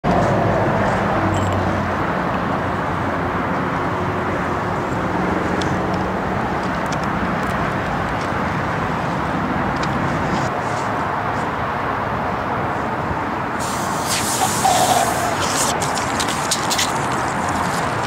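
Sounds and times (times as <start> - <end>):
outdoor rumble and hiss: 0.1 - 18.0.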